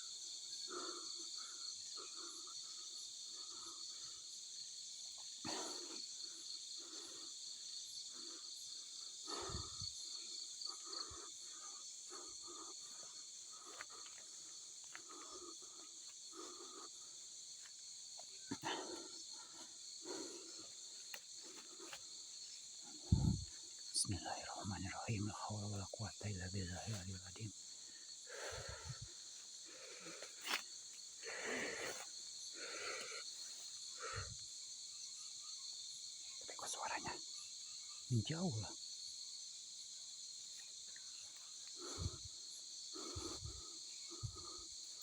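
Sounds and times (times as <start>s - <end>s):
crickets chirring: 0.0s - 45.0s.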